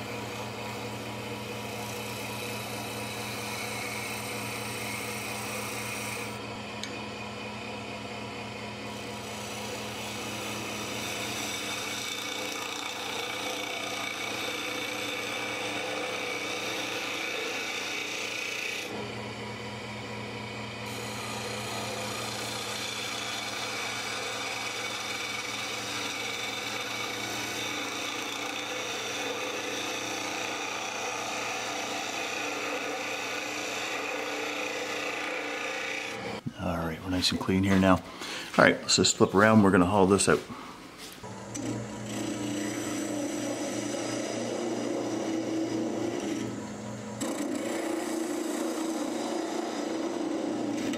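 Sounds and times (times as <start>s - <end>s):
turning tool scraping wood: 0.0s - 7.0s, 8.8s - 19.1s, 20.8s - 40.4s, 41.0s - 50.9s
wood lathe hum: 0.0s - 50.9s.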